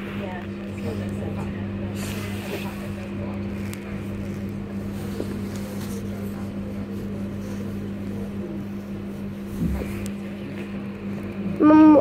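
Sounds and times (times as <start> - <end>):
electric train hum: 0.0 - 12.0.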